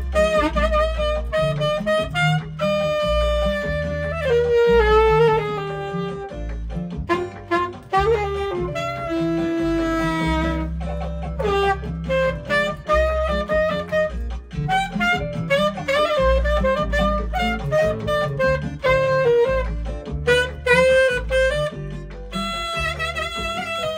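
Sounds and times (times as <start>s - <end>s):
alto saxophone jazz melody: 0.0s - 23.9s
backing track with bass line: 0.0s - 23.9s.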